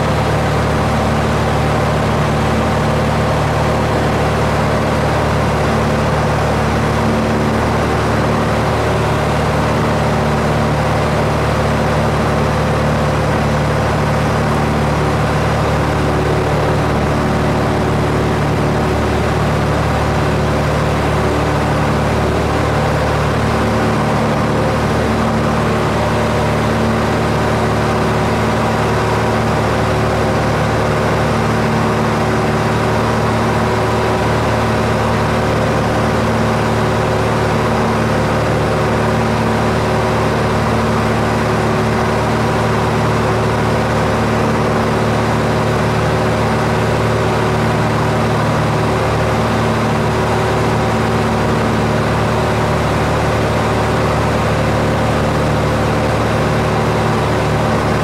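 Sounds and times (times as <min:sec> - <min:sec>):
aircraft engine running: 0:00.0 - 0:58.0.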